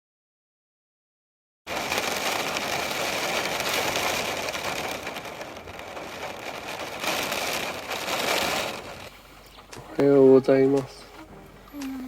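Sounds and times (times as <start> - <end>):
heavy rain and wind on van: 1.7 - 12.0.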